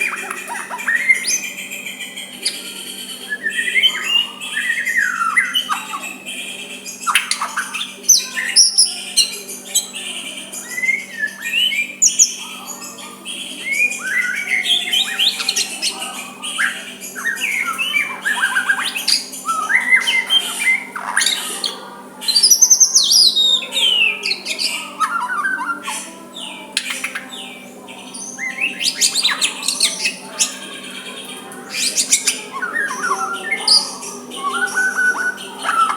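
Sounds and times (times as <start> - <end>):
songbird whistling and chirping: 0.0 - 35.9.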